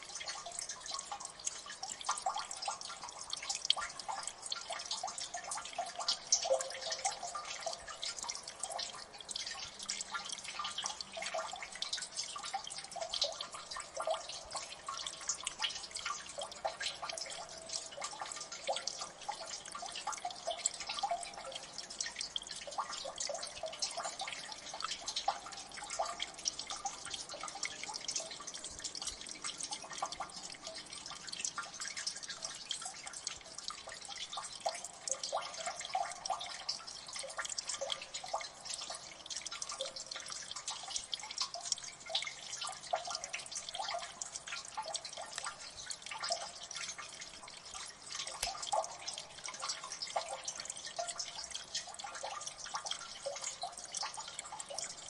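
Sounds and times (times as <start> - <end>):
water dripping: 0.0 - 55.0.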